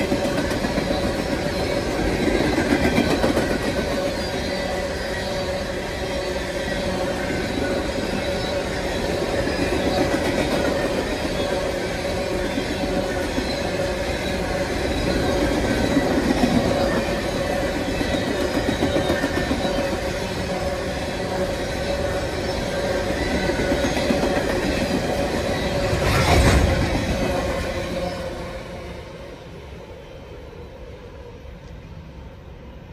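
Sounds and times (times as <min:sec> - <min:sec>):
train wheels rumbling and clacking: 0:00.0 - 0:29.4
train wheels squealing: 0:00.0 - 0:31.4.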